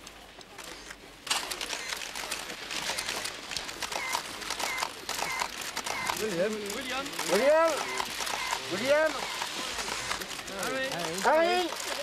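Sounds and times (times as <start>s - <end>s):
camera shutters clicking rapidly: 0.6s - 12.0s.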